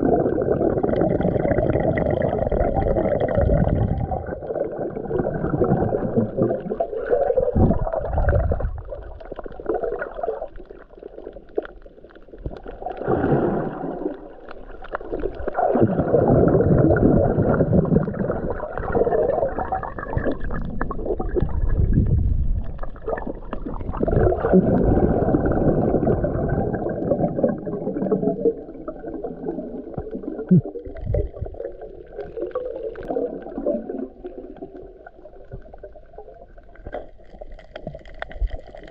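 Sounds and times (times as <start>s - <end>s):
muffled underwater gurgling: 0.0s - 38.9s.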